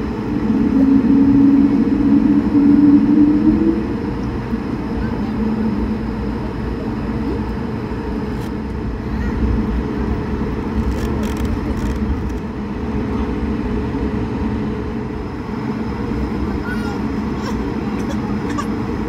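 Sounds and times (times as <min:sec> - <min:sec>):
aircraft cabin engine drone: 0:00.0 - 0:19.0.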